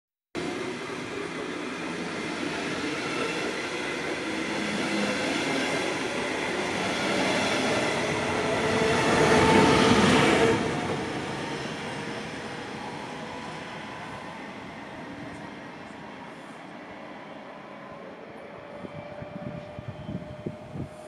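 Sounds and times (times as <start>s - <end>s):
train wheels on rails: 0.4s - 21.0s.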